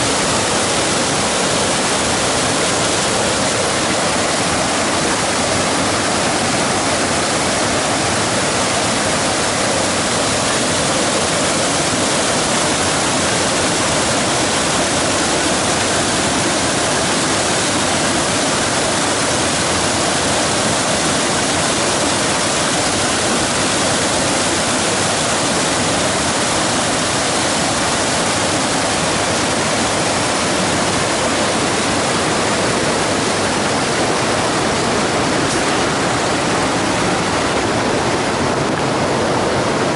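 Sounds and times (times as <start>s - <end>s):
river water rushing over boulders: 0.0s - 39.9s.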